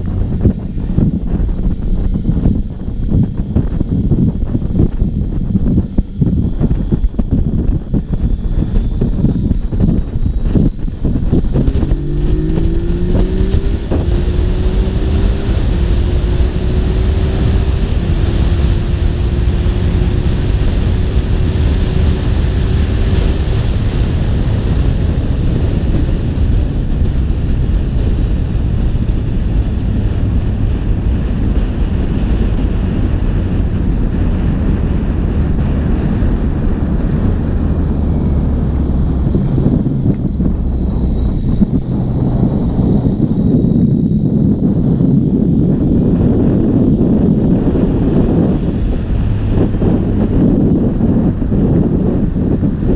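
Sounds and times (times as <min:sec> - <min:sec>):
road rush: 0:00.0 - 0:52.9
wind buffeting on microphone: 0:00.0 - 0:52.9.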